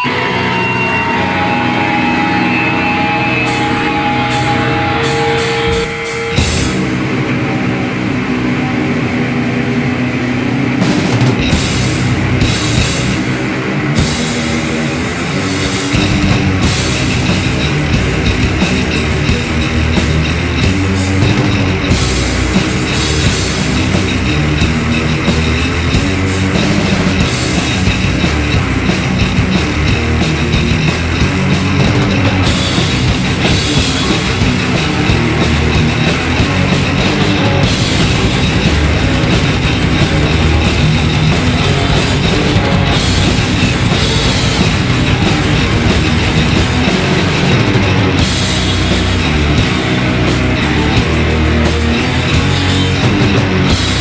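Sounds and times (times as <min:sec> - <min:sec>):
bass guitar: 0:00.0 - 0:54.0
distorted electric guitar: 0:00.0 - 0:54.0
drums: 0:00.0 - 0:54.0.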